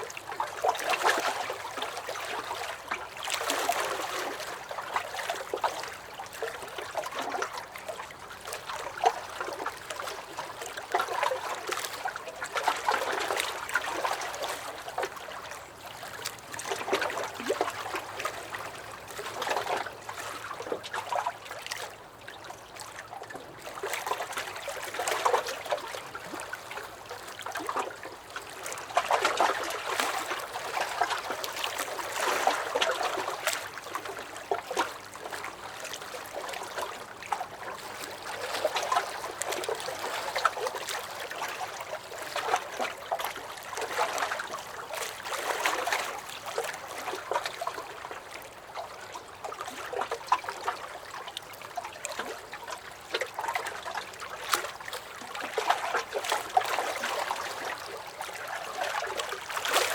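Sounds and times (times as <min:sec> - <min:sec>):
waves lapping against a dock: 0:00.0 - 0:59.9.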